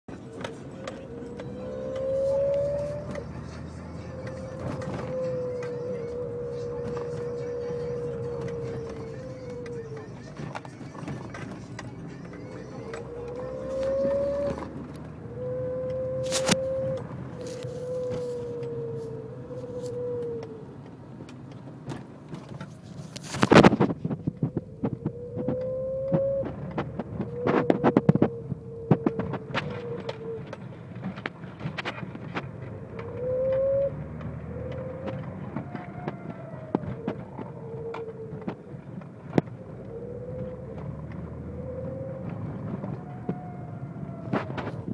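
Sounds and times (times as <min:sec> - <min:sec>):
car whine: 0:00.0 - 0:44.9.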